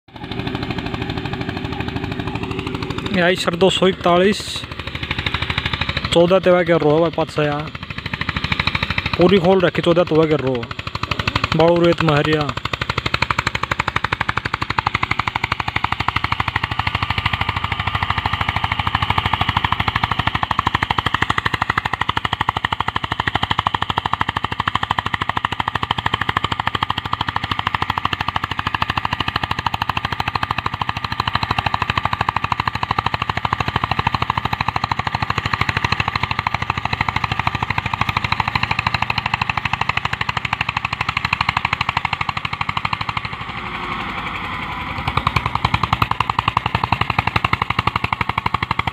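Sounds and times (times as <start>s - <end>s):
tractor diesel engine at full throttle: 0.0s - 48.9s.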